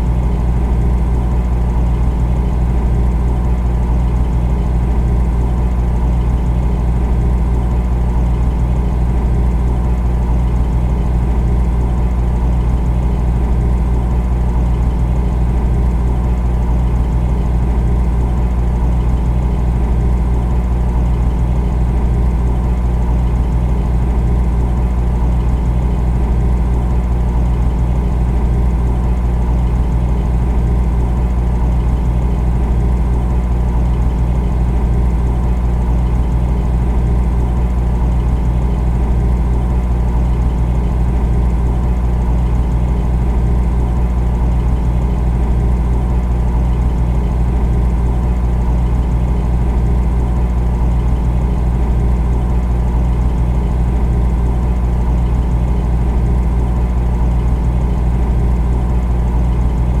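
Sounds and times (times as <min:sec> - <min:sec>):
refrigerator humming: 0:00.0 - 1:00.0.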